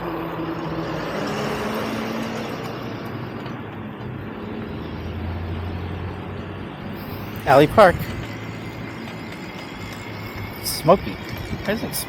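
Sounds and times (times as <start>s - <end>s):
constant rush of noise: 0.0s - 12.0s
vehicle engines humming: 0.0s - 12.0s.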